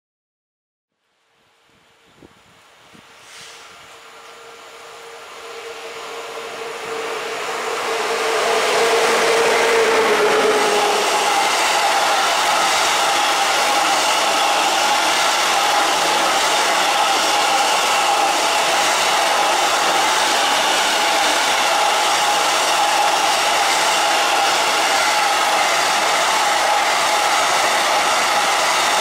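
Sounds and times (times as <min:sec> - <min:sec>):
electric locomotive passing: 0:01.5 - 0:29.0
wheels rushing on rails: 0:01.6 - 0:29.0.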